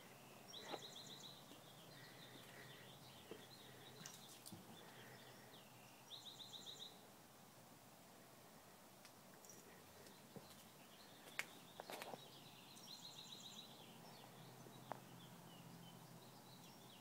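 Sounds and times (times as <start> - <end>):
soft bird chirps: 0.0 - 7.1, 9.4 - 17.0.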